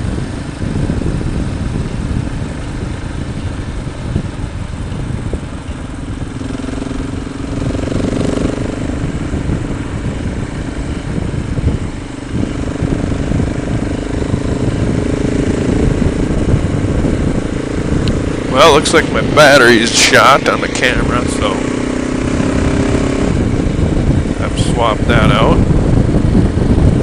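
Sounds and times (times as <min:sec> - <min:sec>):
motorcycle engine running: 0:00.0 - 0:27.0
wind rumble on microphone: 0:00.0 - 0:27.0.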